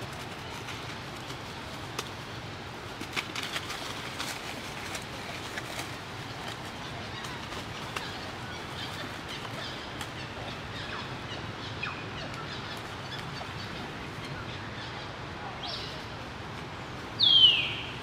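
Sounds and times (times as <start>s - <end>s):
steady outdoor hiss: 0.0s - 18.0s.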